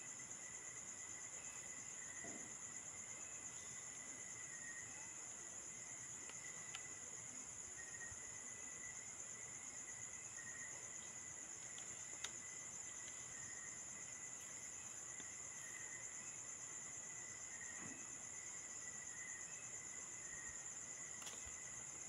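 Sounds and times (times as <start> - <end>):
crickets trilling: 0.0 - 22.0
low steady insect note: 0.0 - 22.0.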